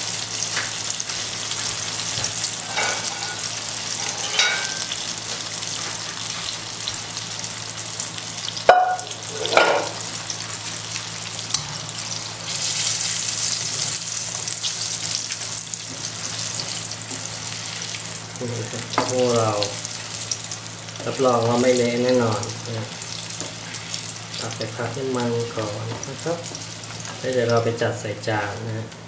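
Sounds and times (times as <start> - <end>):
oil sizzling: 0.0 - 29.0.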